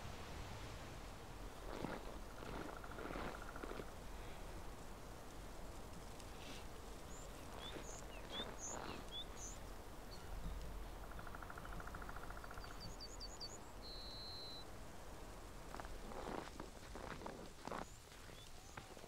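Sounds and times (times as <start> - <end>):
soft outdoor hiss: 0.0 - 19.0
small birds chirping: 1.5 - 4.4, 6.2 - 19.0.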